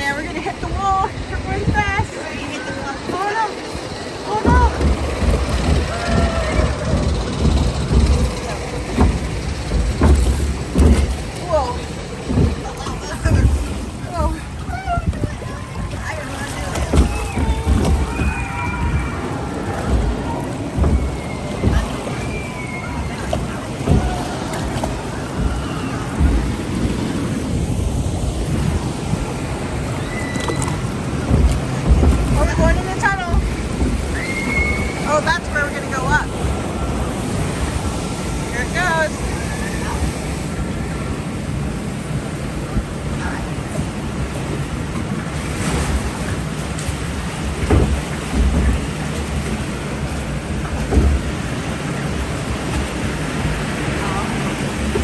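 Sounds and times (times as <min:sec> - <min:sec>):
low thumps: 0:00.0 - 0:55.0
water rushing: 0:00.0 - 0:55.0
wind buffeting microphone: 0:00.0 - 0:55.0.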